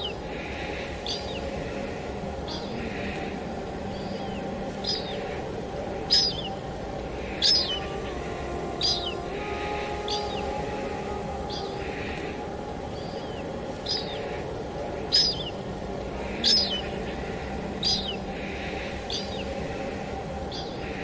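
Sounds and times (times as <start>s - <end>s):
bird chirping: 0.0s - 21.0s
soft sustained music tones: 0.0s - 21.0s
steady rain: 0.0s - 21.0s.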